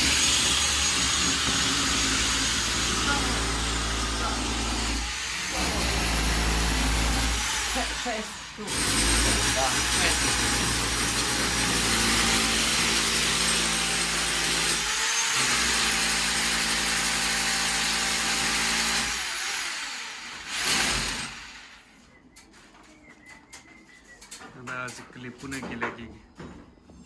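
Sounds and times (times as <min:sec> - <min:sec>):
power drill boring a hole: 0:00.0 - 0:21.9.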